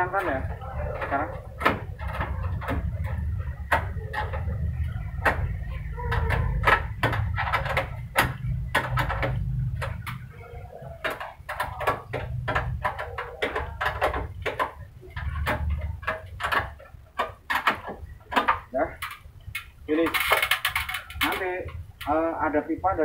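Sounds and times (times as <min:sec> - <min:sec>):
spanner clicking and clanking on metal: 0:00.0 - 0:22.2.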